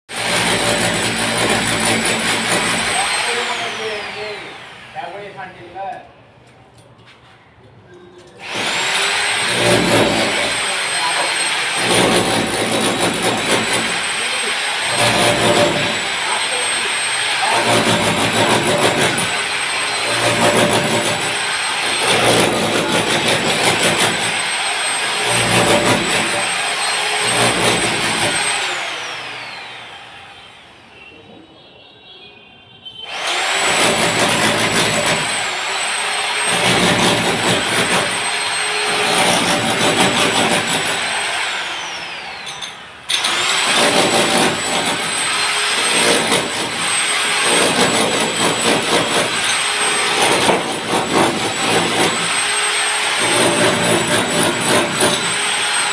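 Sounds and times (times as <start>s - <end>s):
electric power tool whining: 0.2s - 5.0s, 8.4s - 30.9s, 33.1s - 55.9s.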